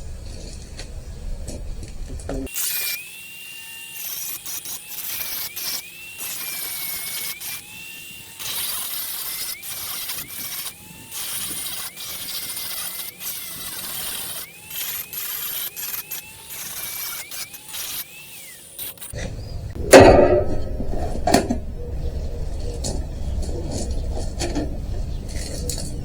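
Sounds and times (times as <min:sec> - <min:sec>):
angle grinder cutting metal: 0:02.4 - 0:26.0.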